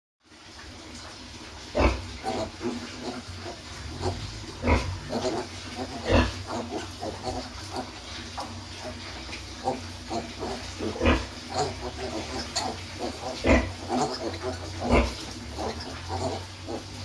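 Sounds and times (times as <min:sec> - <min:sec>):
pigs grunting: 0:01.3 - 0:17.0.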